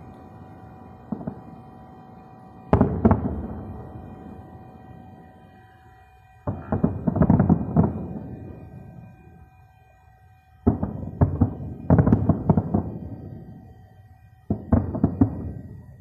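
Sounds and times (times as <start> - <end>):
distant fireworks booming: 0.0 - 5.8, 6.4 - 9.5, 10.6 - 13.8, 14.4 - 16.0.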